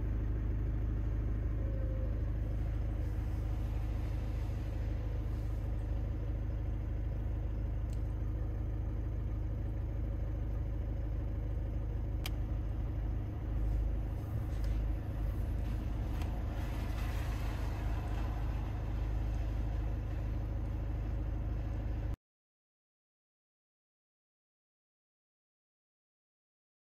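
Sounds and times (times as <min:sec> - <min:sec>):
car engine idling: 0:00.0 - 0:22.2.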